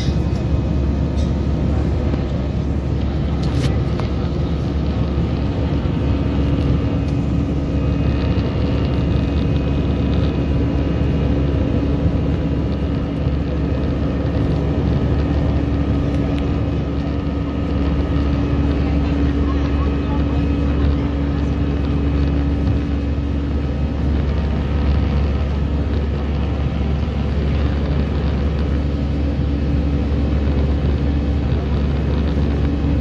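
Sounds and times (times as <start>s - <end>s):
jet engine and airflow roar: 0.0s - 33.0s
steady hum: 0.0s - 33.0s.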